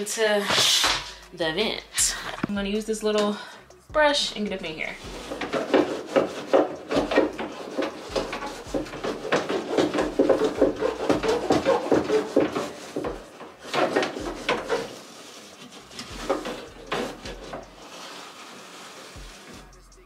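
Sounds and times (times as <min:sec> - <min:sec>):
brush scraping inside dryer: 0:02.7 - 0:20.0.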